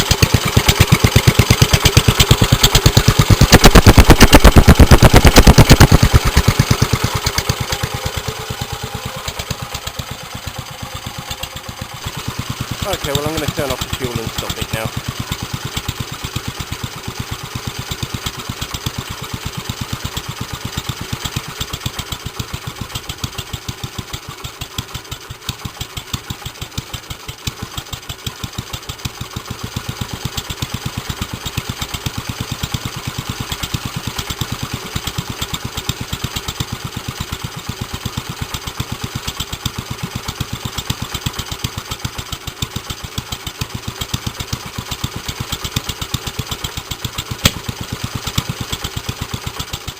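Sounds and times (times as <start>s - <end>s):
stationary engine running: 0.0s - 49.9s.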